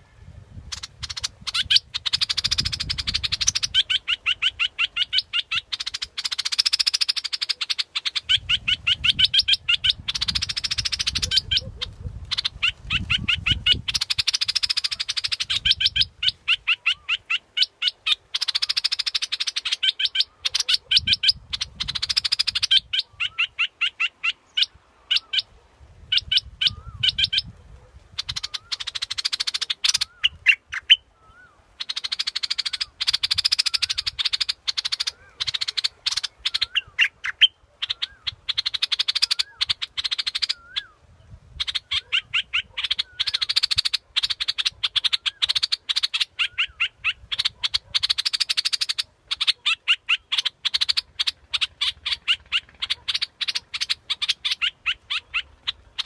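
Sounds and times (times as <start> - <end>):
bird calling sharp repeated notes: 0.6 - 27.5, 28.1 - 56.0.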